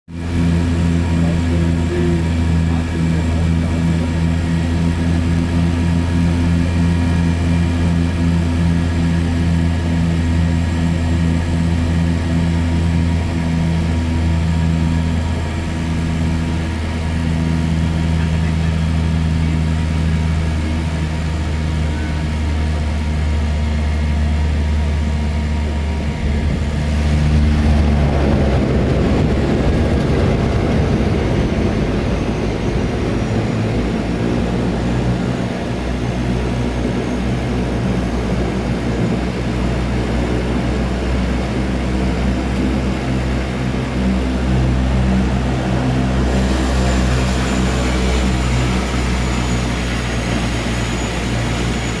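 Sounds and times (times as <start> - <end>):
propeller engines droning: 0.1 - 52.0.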